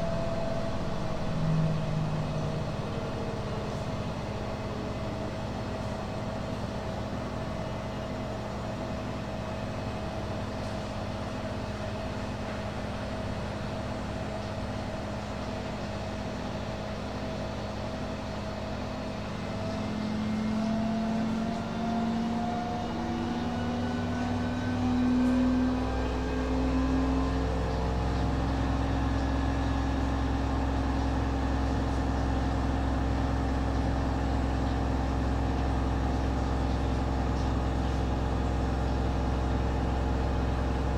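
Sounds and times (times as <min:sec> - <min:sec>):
washing machine motor whine: 0:00.0 - 0:40.9.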